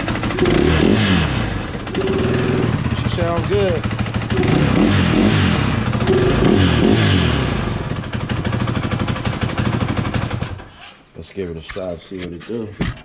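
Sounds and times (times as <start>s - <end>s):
motorcycle engine revving and idling: 0.0s - 10.7s.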